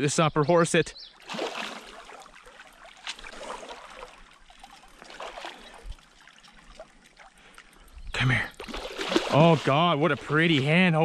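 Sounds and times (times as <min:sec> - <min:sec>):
creek water trickling: 0:00.6 - 0:11.0.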